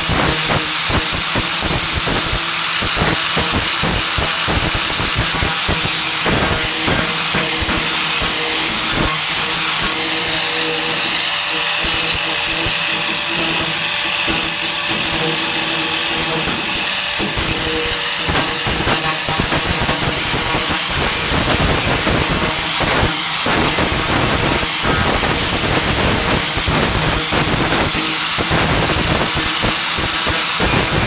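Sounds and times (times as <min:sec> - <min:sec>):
angle grinder grinding metal: 0:00.0 - 0:31.0.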